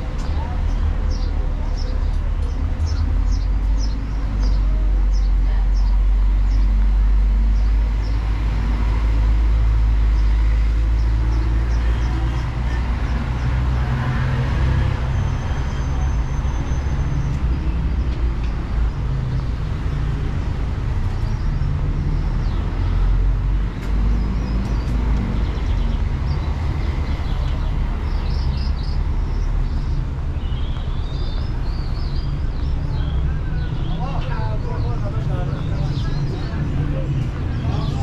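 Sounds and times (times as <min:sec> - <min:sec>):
traffic noise: 0:00.0 - 0:38.0.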